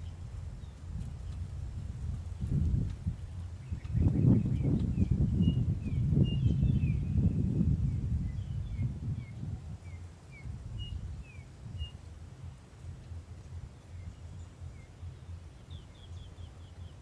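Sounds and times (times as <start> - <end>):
low uneven rumble: 0.0 - 17.0
small birds chirping: 0.0 - 17.0.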